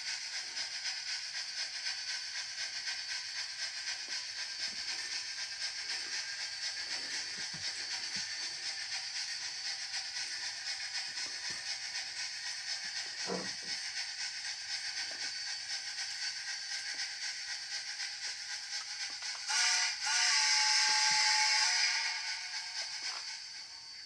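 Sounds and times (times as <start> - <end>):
model steam locomotive hissing: 0.0 - 24.0.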